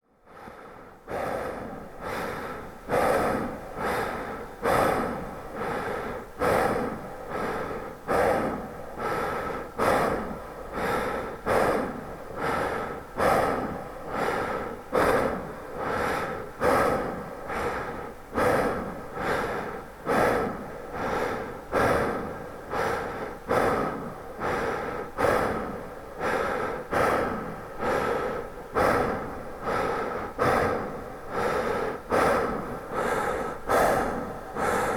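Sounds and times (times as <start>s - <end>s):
man breathing with reverb: 0.0s - 34.9s.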